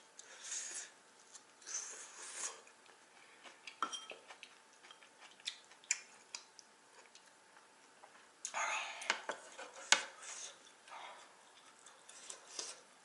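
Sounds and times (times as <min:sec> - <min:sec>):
quiet chewing: 0:00.1 - 0:13.0.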